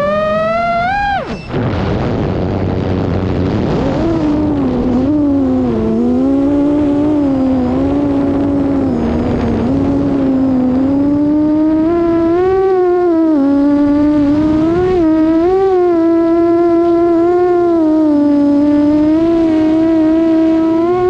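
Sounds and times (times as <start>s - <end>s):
quadcopter motors whining: 0.0s - 1.6s, 3.8s - 21.0s
rough low rumble: 0.0s - 21.0s.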